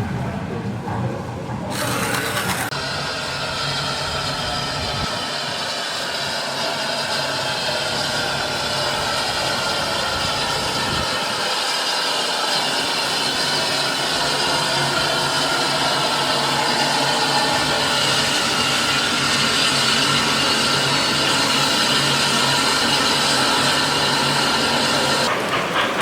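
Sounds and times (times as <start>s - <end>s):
train running: 0.0s - 26.0s.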